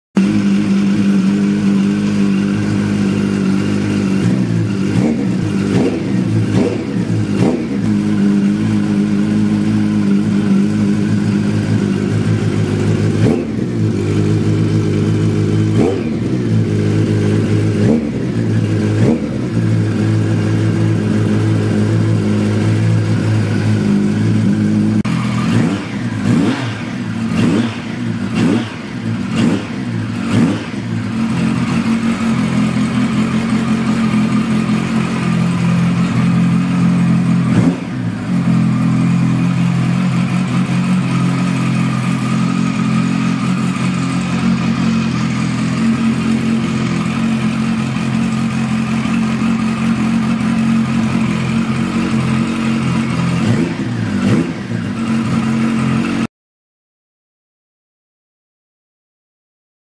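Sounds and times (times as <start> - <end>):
motorcycle engine idling and revving: 0.1 - 56.3.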